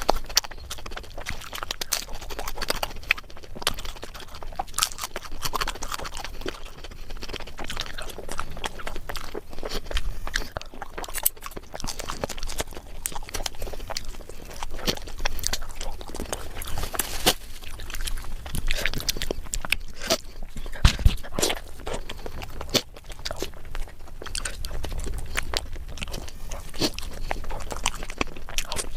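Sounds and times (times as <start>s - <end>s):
person chewing and biting food: 0.0s - 28.9s.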